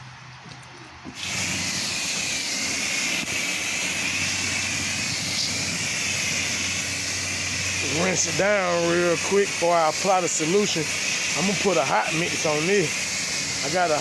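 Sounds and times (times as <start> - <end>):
low pump hum: 1.1 - 14.0
pressure washer jet hissing: 1.1 - 14.0.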